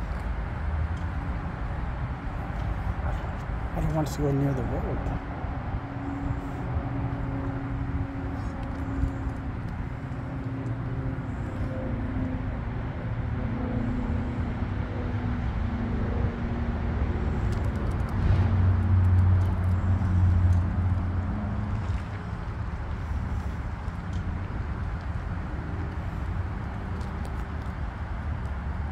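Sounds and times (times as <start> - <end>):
vehicle engine humming: 0.0 - 28.9.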